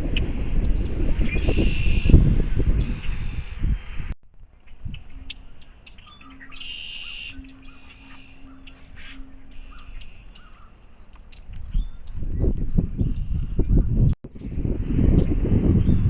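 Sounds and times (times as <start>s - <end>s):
birds calling and chirping: 0.0s - 16.0s.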